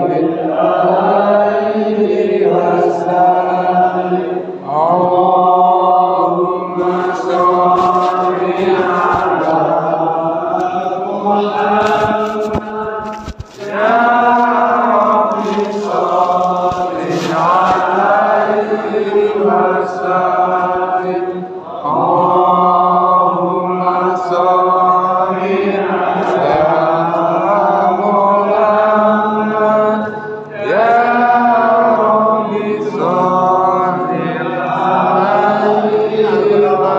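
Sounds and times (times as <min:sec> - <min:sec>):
devotional chant singing: 0:00.0 - 0:36.9.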